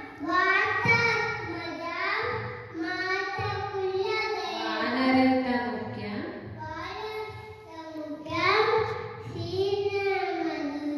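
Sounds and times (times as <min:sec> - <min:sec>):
boy chanting: 0:00.0 - 0:05.5, 0:06.5 - 0:10.9.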